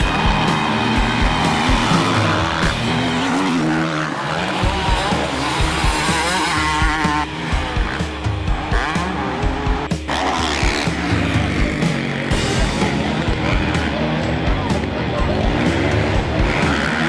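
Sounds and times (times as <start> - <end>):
background music with low beat: 0.0 - 17.0
motocross bike engines revving: 0.0 - 17.0.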